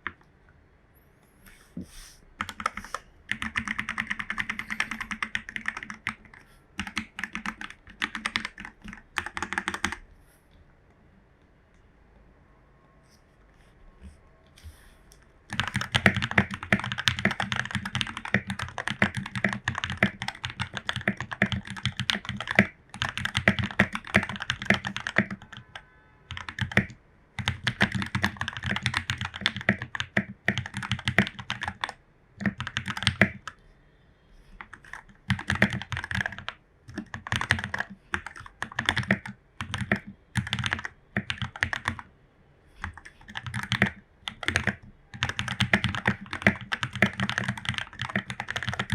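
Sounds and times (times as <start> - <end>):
typing on mechanical keyboard: 2.4 - 10.0, 15.5 - 33.5, 34.6 - 42.1, 42.8 - 48.9.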